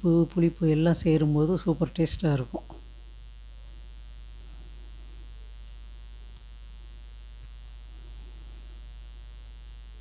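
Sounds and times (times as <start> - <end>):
electrical buzz and hum: 0.0 - 10.0.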